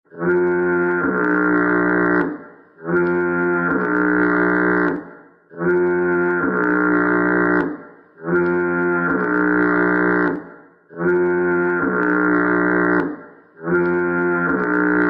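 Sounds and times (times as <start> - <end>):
blaring fog horn blasts: 0.1 - 10.4, 11.0 - 15.0.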